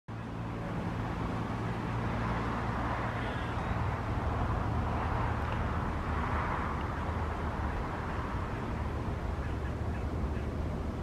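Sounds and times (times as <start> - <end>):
distant road traffic hum: 0.1 - 11.0.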